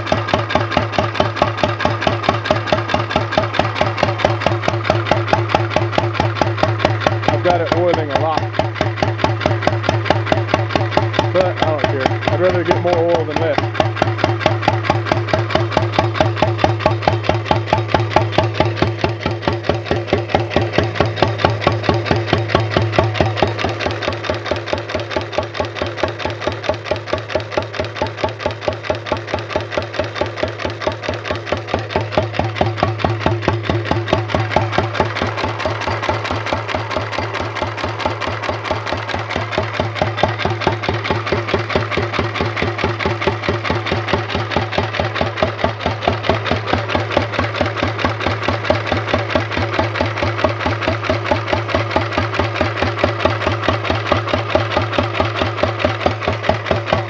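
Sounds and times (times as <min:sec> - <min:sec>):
flywheel engine running: 0:00.0 - 0:57.0.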